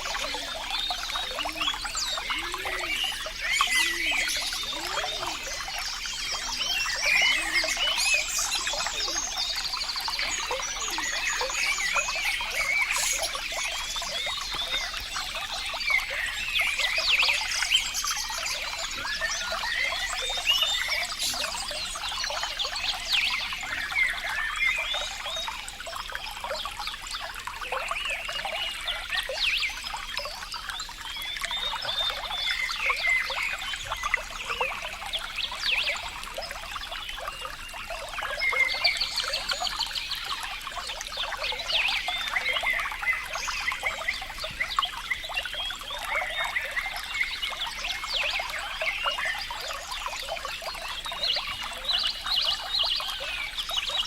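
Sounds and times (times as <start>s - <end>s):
running water splashing and bubbling: 0.0s - 54.0s.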